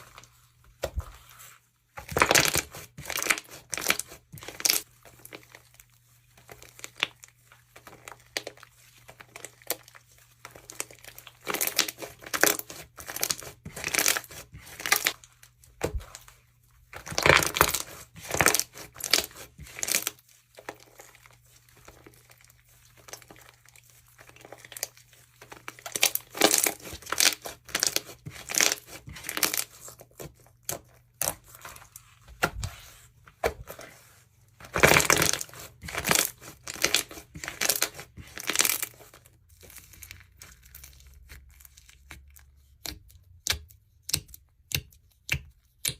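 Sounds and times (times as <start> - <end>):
slime crackling and crunching: 0.0 - 43.6.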